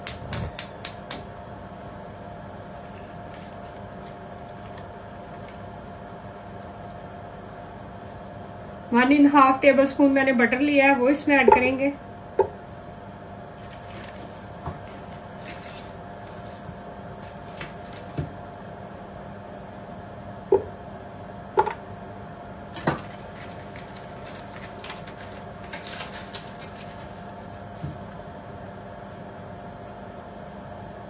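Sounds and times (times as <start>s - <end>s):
steady faint hum: 0.0s - 29.7s.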